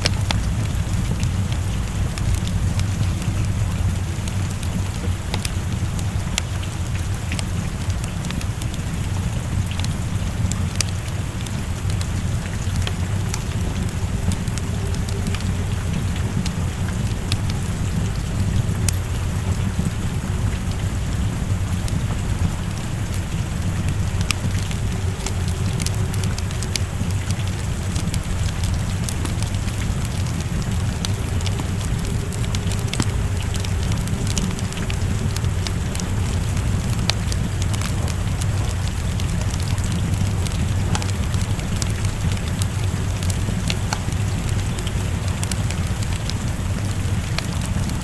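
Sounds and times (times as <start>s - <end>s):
low rumble: 0.0s - 48.0s
rain falling: 0.0s - 48.0s
wood fire crackling: 0.0s - 48.0s.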